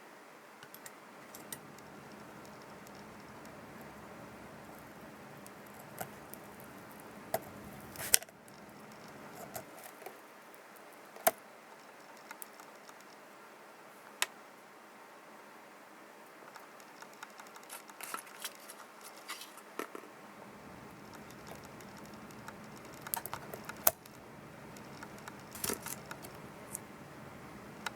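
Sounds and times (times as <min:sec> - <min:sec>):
small ticks: 0:00.6 - 0:13.3, 0:16.2 - 0:20.0, 0:20.7 - 0:26.9.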